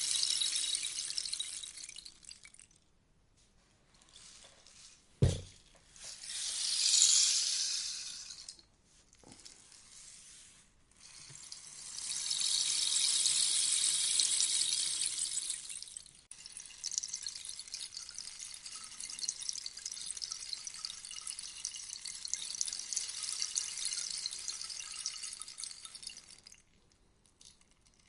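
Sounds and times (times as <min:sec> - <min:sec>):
rainstick beads trickling: 0:00.0 - 0:02.8, 0:03.9 - 0:04.9, 0:05.6 - 0:09.8, 0:11.0 - 0:28.0.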